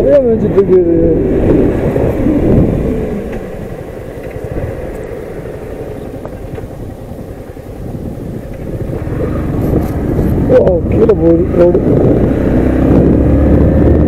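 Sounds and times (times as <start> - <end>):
road and wind noise: 0.0 - 14.0
motorcycle engine running: 1.2 - 14.0.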